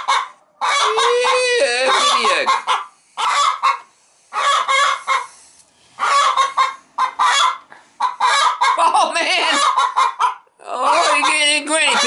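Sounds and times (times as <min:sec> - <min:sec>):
hen squawking and clucking: 0:00.0 - 0:12.0.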